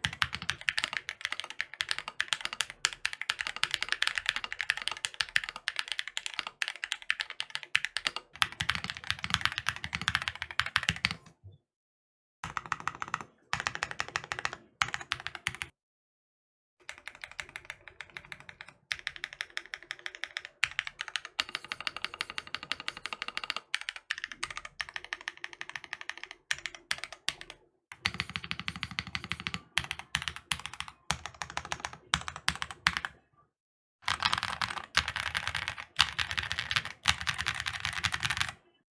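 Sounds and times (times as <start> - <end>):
fast typing on mechanical keyboard: 0.0 - 11.2, 12.4 - 15.7, 16.8 - 33.2, 34.0 - 38.6.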